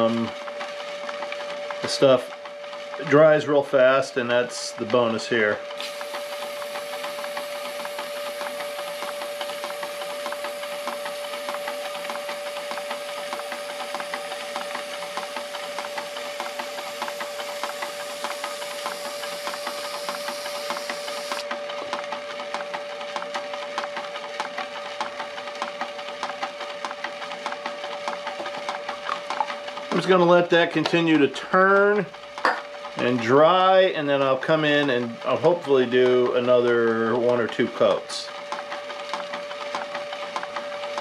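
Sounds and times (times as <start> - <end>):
lathe running tone: 0.0 - 41.0.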